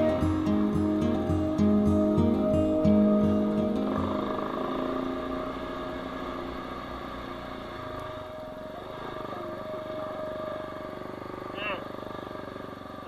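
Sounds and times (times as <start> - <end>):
music track: 0.0 - 11.6
motorbike engine running: 0.0 - 13.0.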